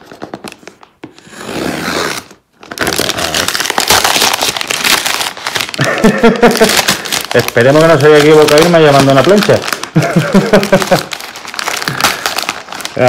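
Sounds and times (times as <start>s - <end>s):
wrapping paper tearing and crinkling: 0.0s - 13.0s.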